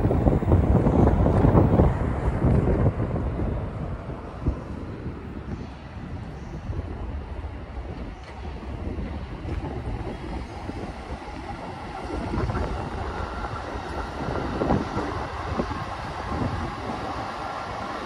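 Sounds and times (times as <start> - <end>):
train wheels rumbling on track: 0.0 - 18.0
wind on microphone: 0.0 - 18.0.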